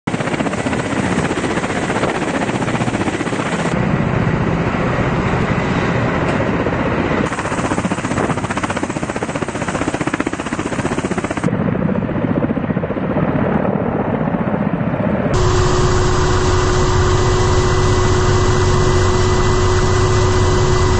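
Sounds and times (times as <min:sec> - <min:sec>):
helicopter engine noise: 0:00.1 - 0:20.9
helicopter rotors chopping: 0:00.1 - 0:20.9.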